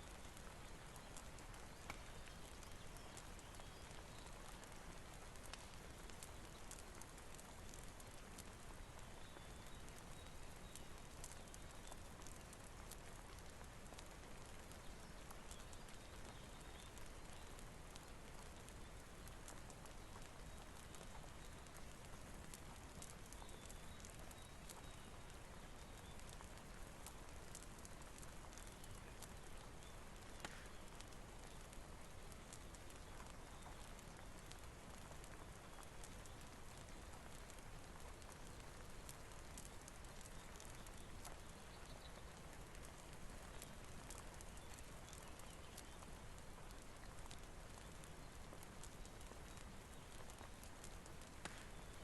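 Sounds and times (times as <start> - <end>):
faint rain hiss: 0.0 - 52.0
wood fire crackling: 0.0 - 52.0.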